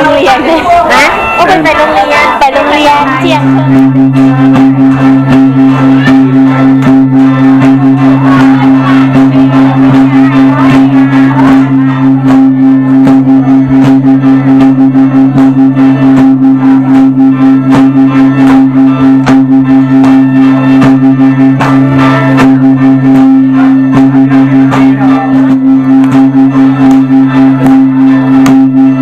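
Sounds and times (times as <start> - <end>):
plucked strings: 0.0 - 29.0
regular beat: 0.0 - 29.0
two-note drone: 0.0 - 29.0.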